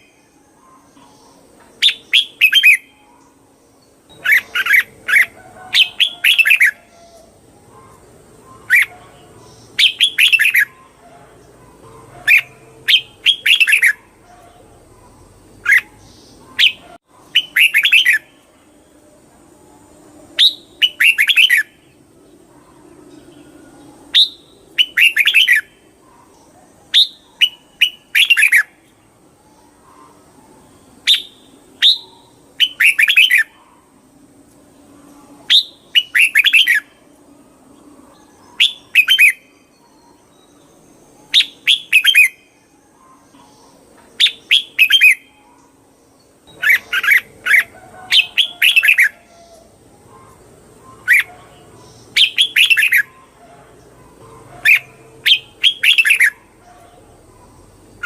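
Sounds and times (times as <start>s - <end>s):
bulbul singing: 0.0s - 19.0s, 19.7s - 34.1s, 34.8s - 58.0s.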